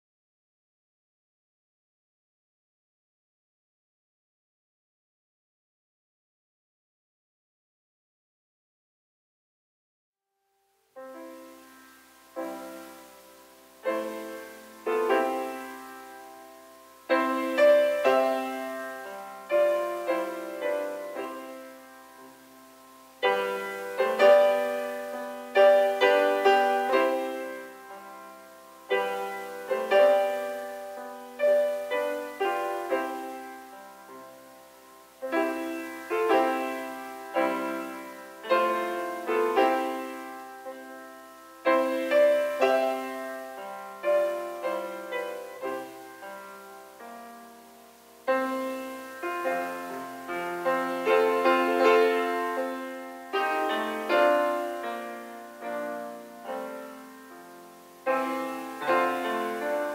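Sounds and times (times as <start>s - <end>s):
grand piano chords: 10.9s - 59.9s.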